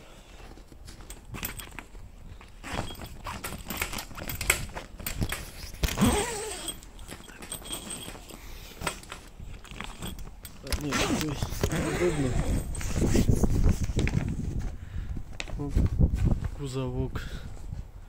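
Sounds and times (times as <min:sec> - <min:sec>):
tent fabric rustling and clicking: 0:00.2 - 0:16.8.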